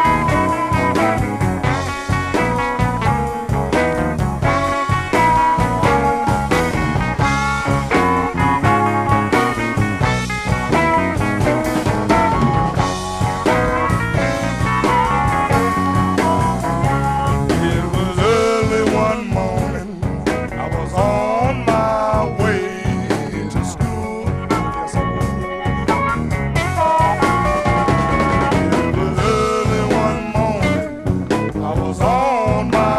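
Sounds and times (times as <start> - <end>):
electric blues band playing: 0.0 - 32.9.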